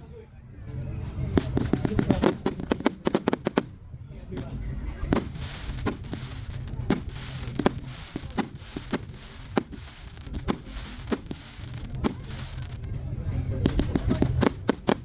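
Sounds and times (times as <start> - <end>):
fireworks bangs and pops: 1.2 - 15.0
crackling hiss: 1.4 - 3.8, 4.4 - 12.9, 13.6 - 15.0.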